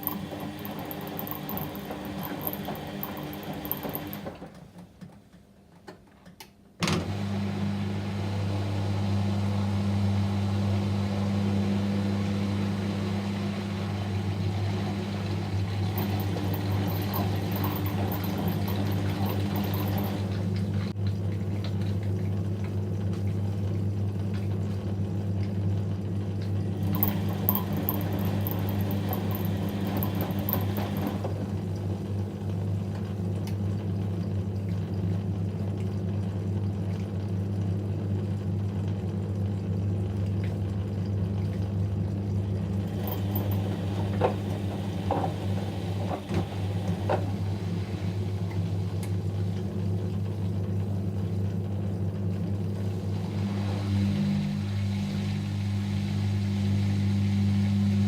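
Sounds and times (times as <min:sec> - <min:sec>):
water running through machine: 0:00.0 - 0:04.7, 0:07.1 - 0:58.0
washing machine hum: 0:00.0 - 0:58.0.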